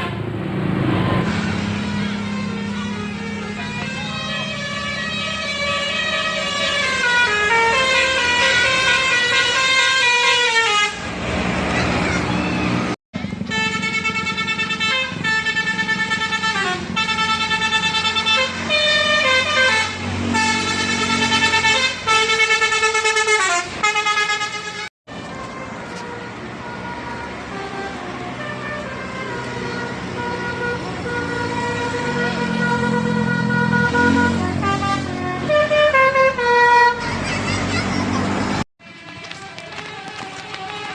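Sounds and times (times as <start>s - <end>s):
multi-tone musical air horn: 1.7s - 11.1s, 13.4s - 37.1s.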